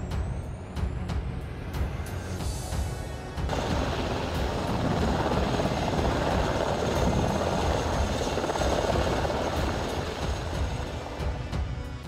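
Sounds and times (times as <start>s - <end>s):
helicopter rotor and turbine: 0.2s - 12.0s.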